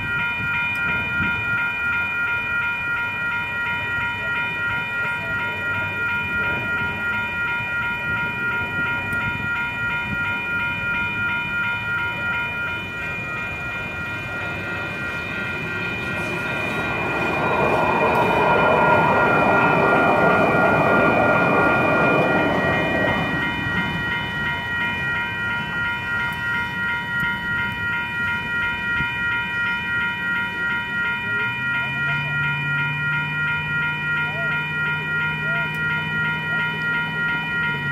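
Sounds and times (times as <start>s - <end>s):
light rail train rolling: 0.0s - 37.9s
railroad crossing bells ringing: 0.0s - 37.9s.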